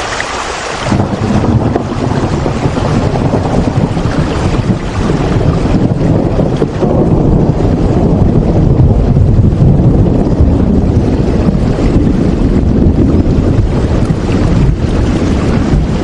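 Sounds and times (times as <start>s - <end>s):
loud rumbling rain: 0.0s - 16.0s.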